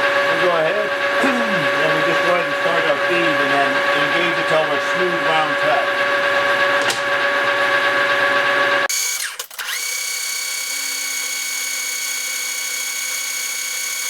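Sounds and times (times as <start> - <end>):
metal lathe whining: 0.0 - 14.0.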